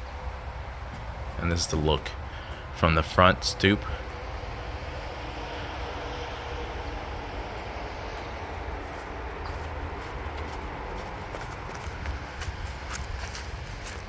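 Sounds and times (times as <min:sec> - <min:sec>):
faint hum: 0:00.0 - 0:14.0
outdoor rushing noise: 0:00.0 - 0:14.0.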